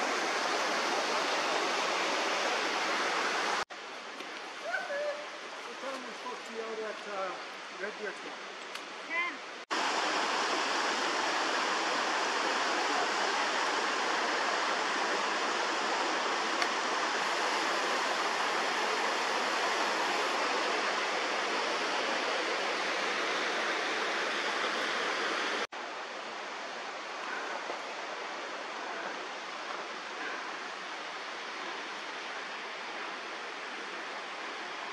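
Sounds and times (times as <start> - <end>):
creek rushing over rocks: 0.0 - 9.0, 9.6 - 34.9.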